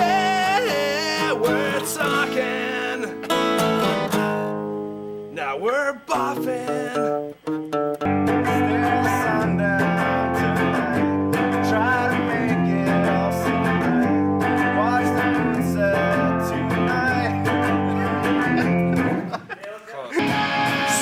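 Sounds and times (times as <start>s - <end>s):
strummed acoustic guitar: 0.0s - 19.4s, 20.1s - 21.0s.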